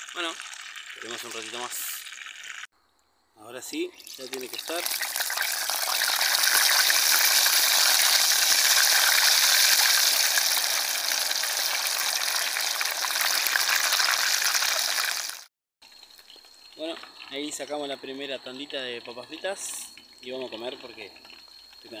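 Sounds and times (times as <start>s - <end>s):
potato slices sizzling in oil: 0.0s - 2.7s, 4.0s - 22.0s.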